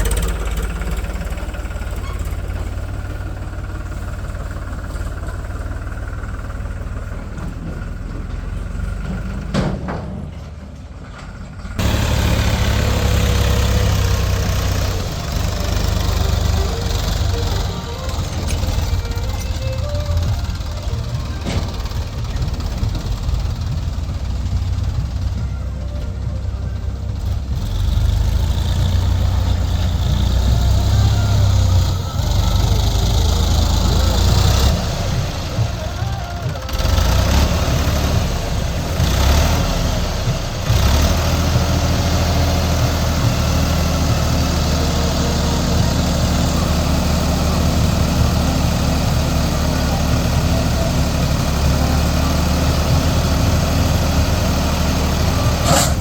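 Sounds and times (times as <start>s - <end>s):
heavy diesel engine idling: 0.0s - 56.0s
loud engine running: 0.0s - 56.0s.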